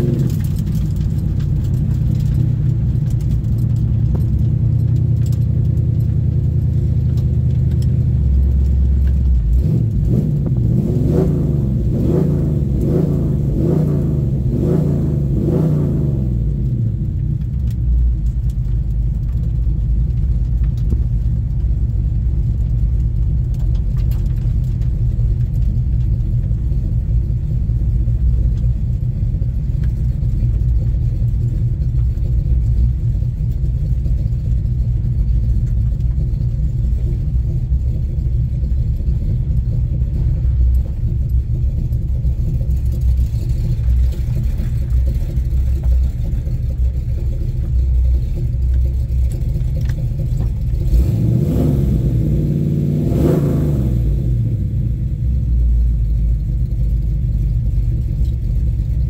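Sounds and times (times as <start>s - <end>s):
car engine running steadily: 0.0s - 59.0s.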